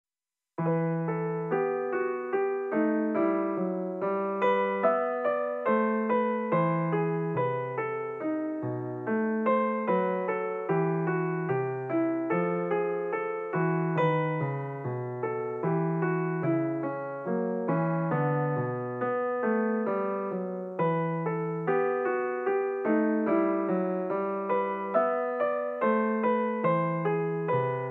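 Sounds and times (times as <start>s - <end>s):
piano melody: 0.6s - 27.9s.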